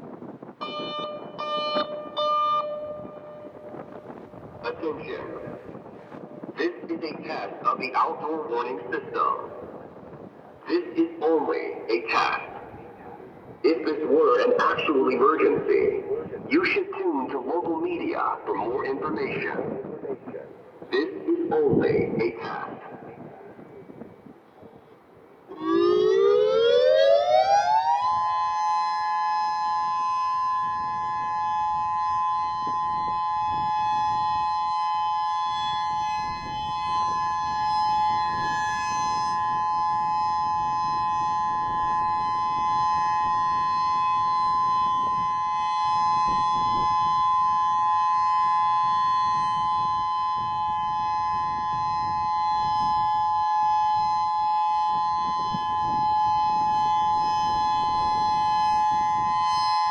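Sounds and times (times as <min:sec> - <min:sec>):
outdoor warning siren: 0:00.0 - 0:16.5, 0:17.4 - 0:59.9.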